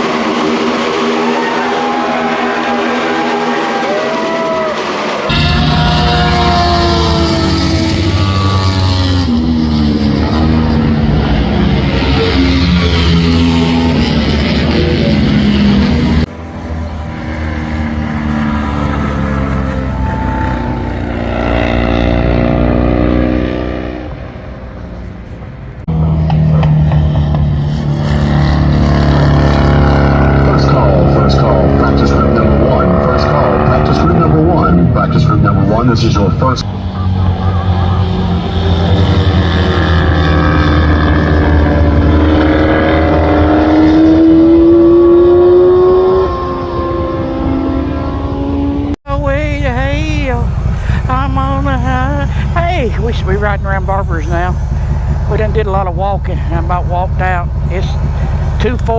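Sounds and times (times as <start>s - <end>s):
deep steady engine note: 0.0s - 58.9s
motorcycle engine running: 4.7s - 58.9s.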